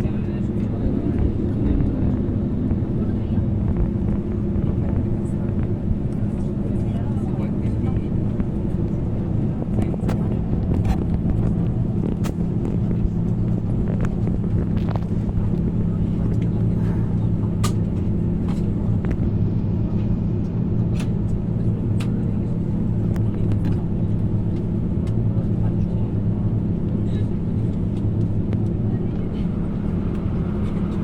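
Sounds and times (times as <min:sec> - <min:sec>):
aircraft cabin ventilation hum: 0:00.0 - 0:31.0.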